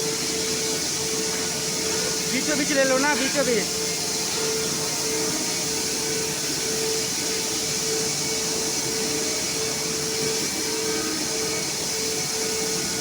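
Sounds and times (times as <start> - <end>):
mid-pitched machine hum: 0.0 - 13.0.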